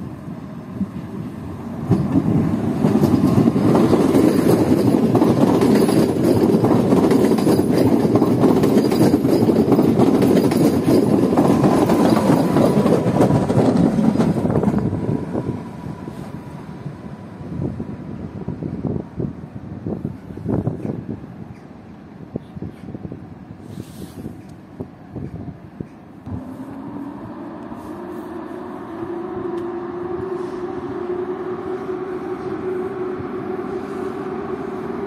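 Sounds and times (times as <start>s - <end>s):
electric train passing: 0.0s - 21.5s, 26.2s - 35.0s.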